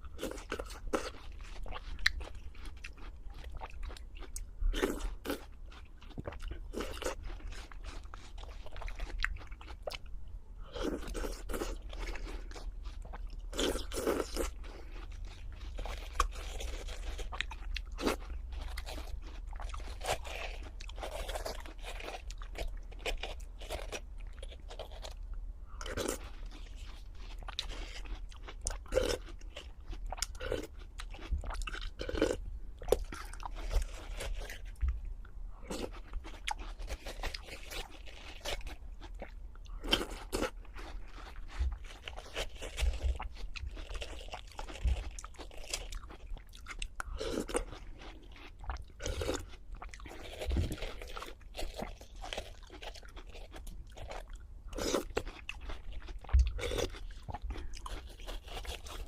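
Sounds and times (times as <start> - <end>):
person chewing crisp food: 0.0 - 59.0.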